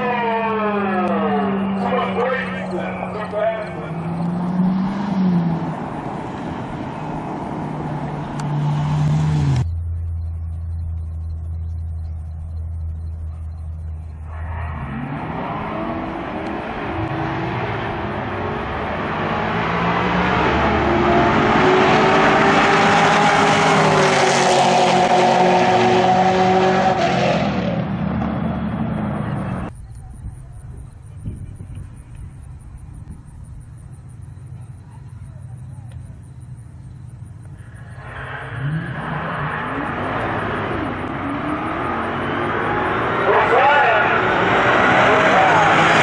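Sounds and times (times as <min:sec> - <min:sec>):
cars accelerating: 0:00.0 - 0:29.8, 0:32.1 - 0:46.0
car engines idling: 0:00.0 - 0:46.0.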